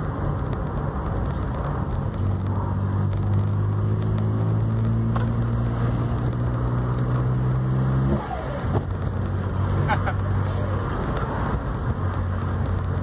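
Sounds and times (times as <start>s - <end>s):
car engine pulling under throttle: 0.0s - 13.0s.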